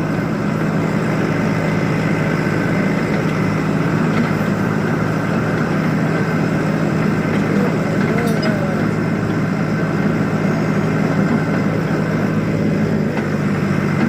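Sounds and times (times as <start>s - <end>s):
heavy vehicle engine droning: 0.0s - 14.0s.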